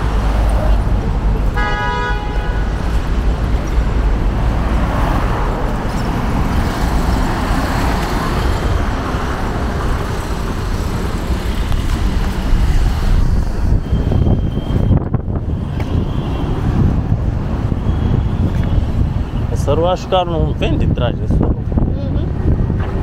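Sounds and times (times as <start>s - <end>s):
cars passing by: 0.0s - 23.0s.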